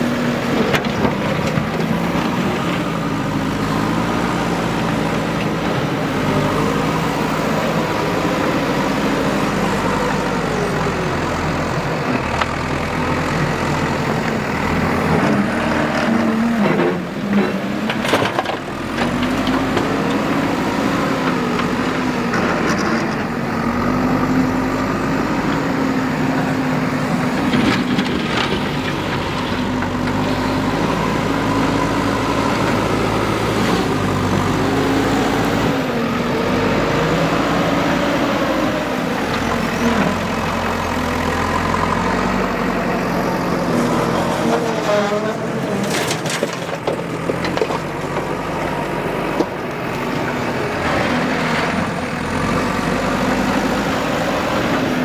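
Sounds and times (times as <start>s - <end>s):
backhoe diesel engine working: 0.0s - 55.0s.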